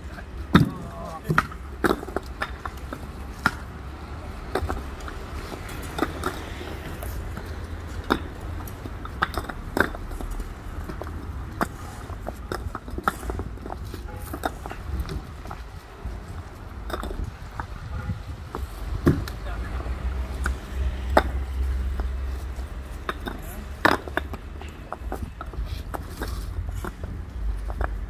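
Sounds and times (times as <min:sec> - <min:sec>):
concrete paving blocks clacking: 0:00.0 - 0:28.0.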